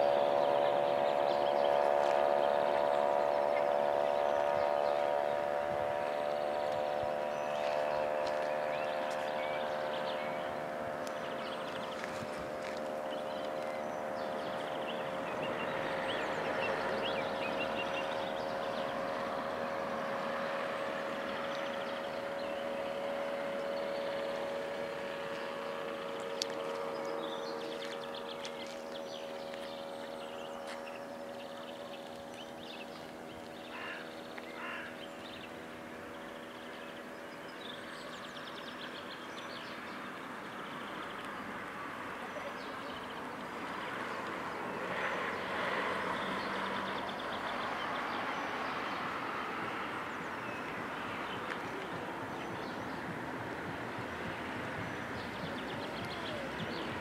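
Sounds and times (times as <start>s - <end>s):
engine hum: 0.0s - 57.0s
small birds chirping: 0.0s - 57.0s.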